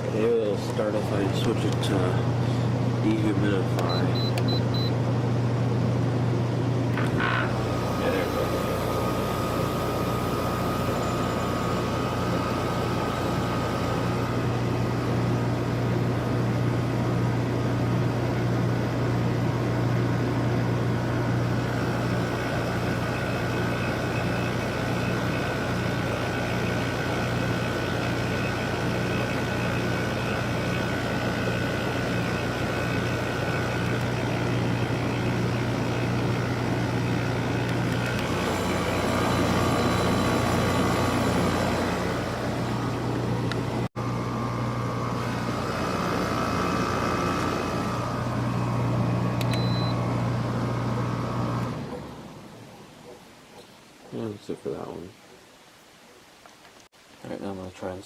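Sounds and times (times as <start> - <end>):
air conditioner compressor humming: 0.0 - 55.0
fan air noise: 0.0 - 55.1.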